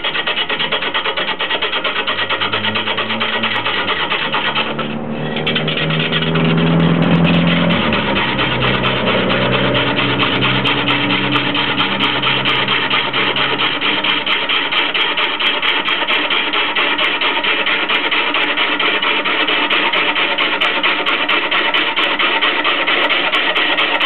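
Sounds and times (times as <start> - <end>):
lathe running drone: 0.0 - 24.0
turning tool scraping wood: 0.0 - 24.0.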